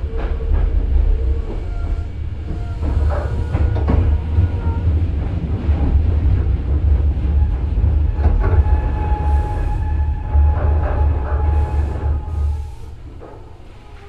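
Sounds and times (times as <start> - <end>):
train deep rumble: 0.0 - 14.0.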